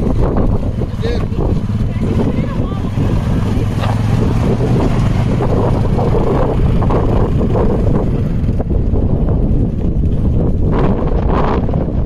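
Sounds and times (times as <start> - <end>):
quad bike engine running: 0.0 - 12.0
wind buffeting microphone: 0.0 - 12.0.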